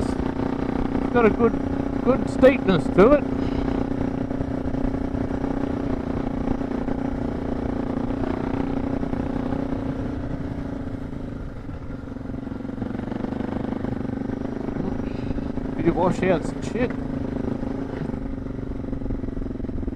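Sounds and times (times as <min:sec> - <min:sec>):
motorcycle engine climbing: 0:00.0 - 0:19.9.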